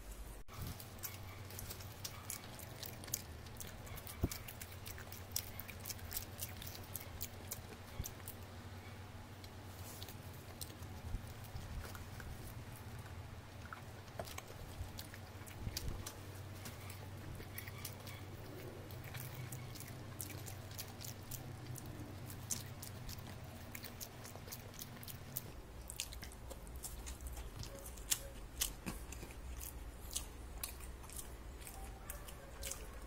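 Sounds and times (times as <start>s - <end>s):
steady low hum: 0.0s - 33.0s
person chewing crunchy fries: 0.5s - 8.6s, 9.3s - 33.0s.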